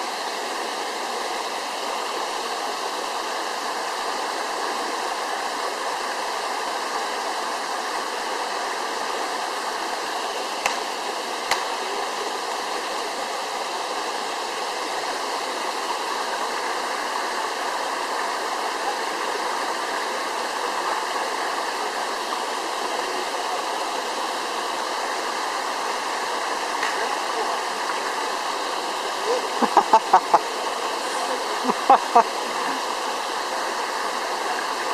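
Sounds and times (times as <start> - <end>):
waterfall roar: 0.0 - 34.9.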